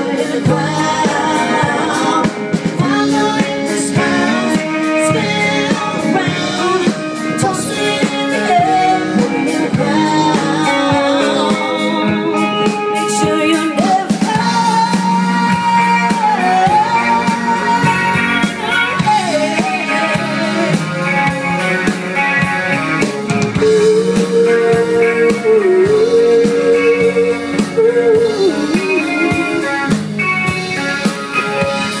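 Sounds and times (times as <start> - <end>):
woman singing lead vocal: 0.0 - 21.0, 23.6 - 29.9
bass guitar: 0.0 - 32.0
drum kit: 0.0 - 32.0
electric guitar: 0.0 - 32.0.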